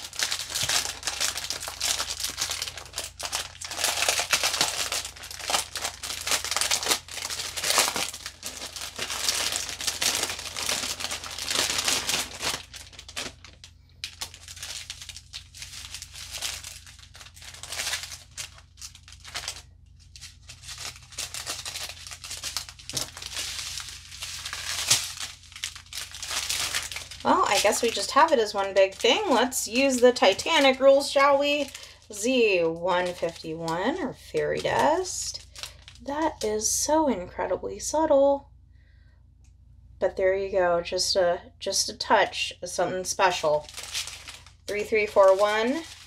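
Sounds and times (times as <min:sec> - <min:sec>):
plastic packaging crinkling: 0:00.0 - 0:36.4, 0:43.2 - 0:46.0.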